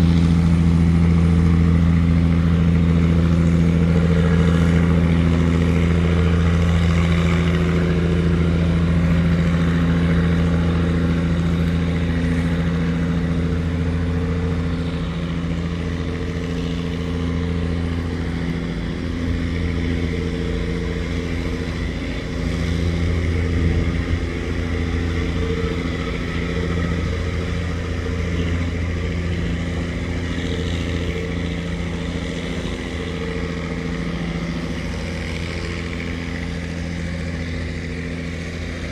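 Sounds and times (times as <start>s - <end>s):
boat diesel engine drone: 0.0s - 38.9s.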